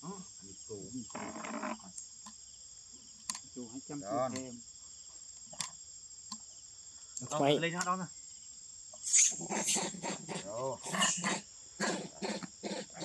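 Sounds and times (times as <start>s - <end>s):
insects singing: 0.0s - 13.0s.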